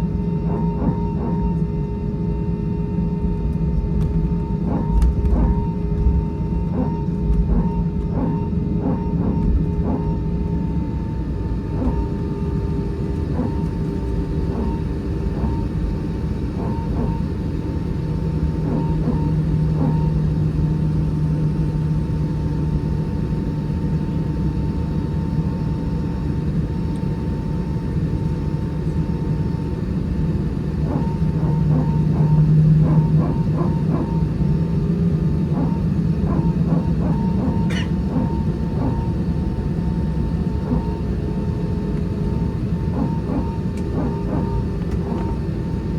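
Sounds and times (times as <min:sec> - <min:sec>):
aircraft cabin rumble and hum: 0:00.0 - 0:45.9.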